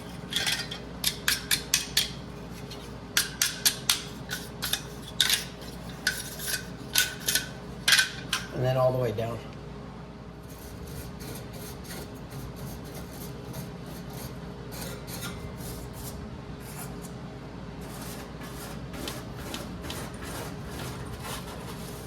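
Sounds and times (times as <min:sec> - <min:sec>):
scrubbing furnace burners: 0:00.0 - 0:08.7, 0:10.4 - 0:22.0
steady low hum: 0:00.0 - 0:22.0.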